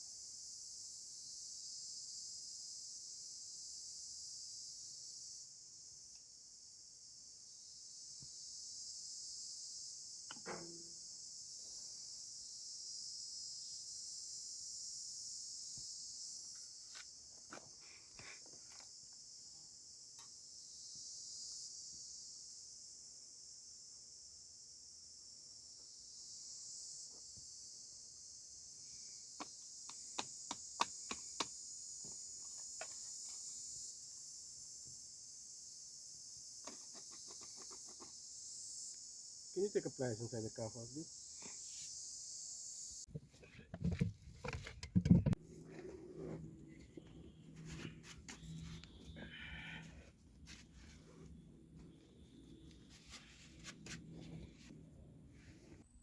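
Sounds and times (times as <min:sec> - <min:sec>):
insects chirping: 0:00.0 - 0:45.4, 0:46.1 - 0:54.7.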